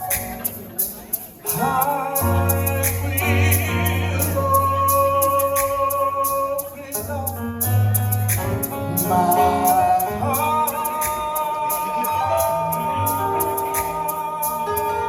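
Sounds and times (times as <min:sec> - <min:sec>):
gospel singing with band: 0:00.0 - 0:15.0.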